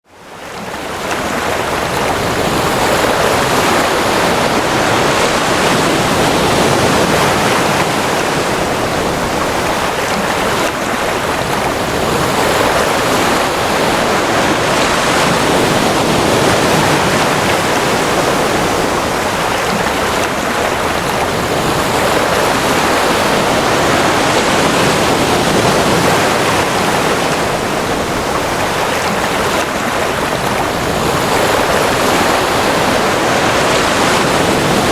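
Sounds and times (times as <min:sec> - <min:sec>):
ocean surf washing: 0:00.0 - 0:34.9.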